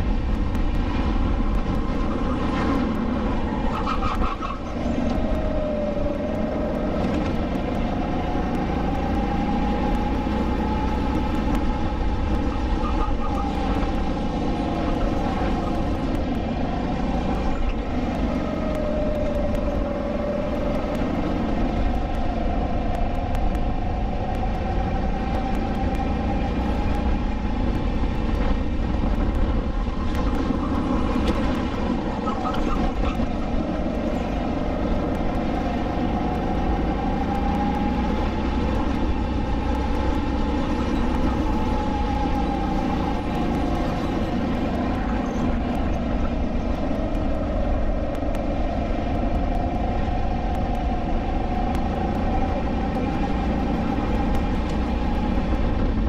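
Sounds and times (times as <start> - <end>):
kart engine racing: 0.0 - 56.0.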